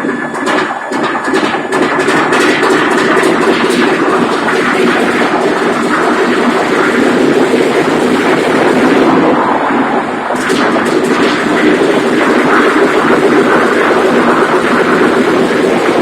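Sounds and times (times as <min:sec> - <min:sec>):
engine running loudly: 0:00.0 - 0:16.0.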